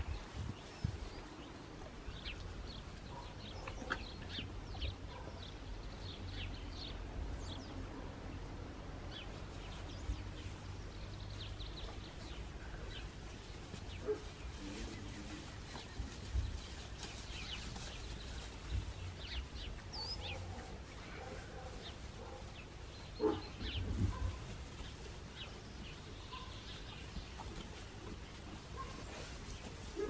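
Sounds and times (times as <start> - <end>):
small birds chirping: 0.0 - 8.4, 9.0 - 30.0
rustles: 0.0 - 30.0.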